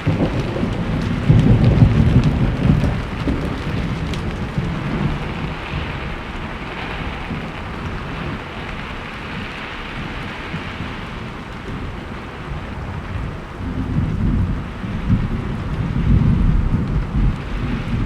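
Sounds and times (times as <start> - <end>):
heavy rain: 0.0 - 18.0
thunder rumble: 0.0 - 18.0.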